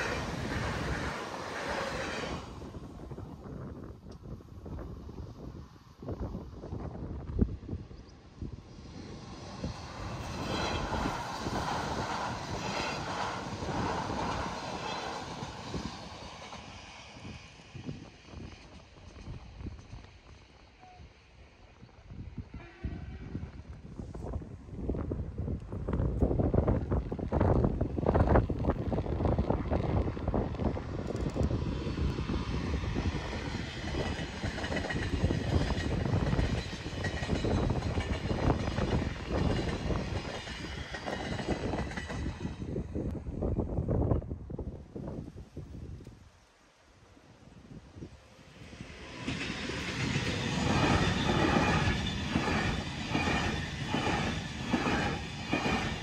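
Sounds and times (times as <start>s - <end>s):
wind buffeting microphone: 0.0s - 20.7s, 21.7s - 46.3s, 47.4s - 56.0s
train passing: 0.0s - 43.5s, 46.7s - 56.0s.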